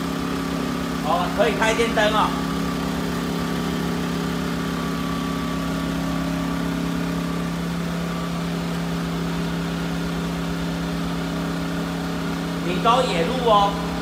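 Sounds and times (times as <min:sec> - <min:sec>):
generator engine humming: 0:00.0 - 0:14.0.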